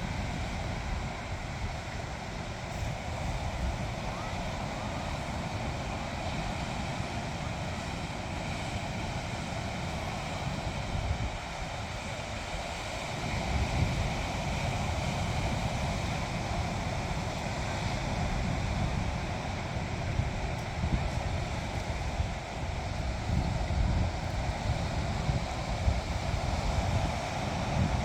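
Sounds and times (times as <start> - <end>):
sea waves washing on shore: 0.0 - 28.0
wind rumbling on microphone: 0.0 - 28.0.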